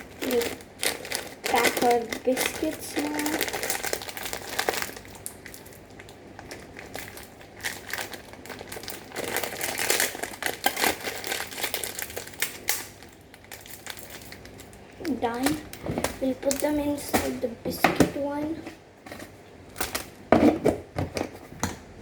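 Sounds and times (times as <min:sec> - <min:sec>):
plastic packaging crinkling: 0:00.0 - 0:18.3.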